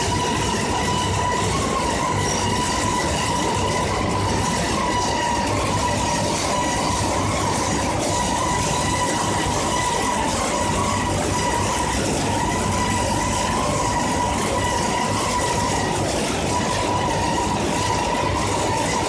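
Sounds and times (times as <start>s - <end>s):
steady high whine: 0.0s - 19.0s.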